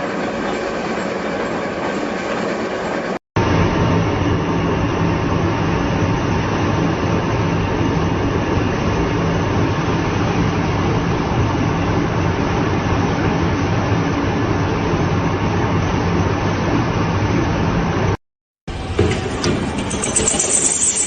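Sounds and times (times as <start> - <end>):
heavy machinery rumble: 0.0 - 21.0.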